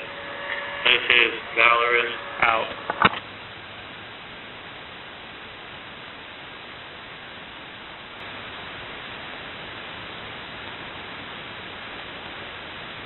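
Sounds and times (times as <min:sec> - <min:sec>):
shortwave radio static hiss: 0:00.0 - 0:13.0.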